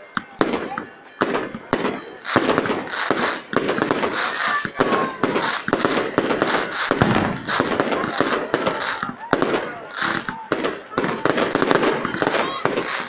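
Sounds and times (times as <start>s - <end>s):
fireworks sharp bangs: 0.2s - 13.0s
fireworks hissing crackle: 1.6s - 13.0s.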